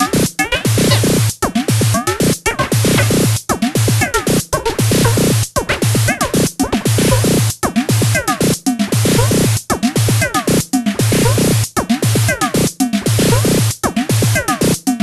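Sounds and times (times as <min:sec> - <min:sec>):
electronic drum pattern: 0:00.0 - 0:15.0.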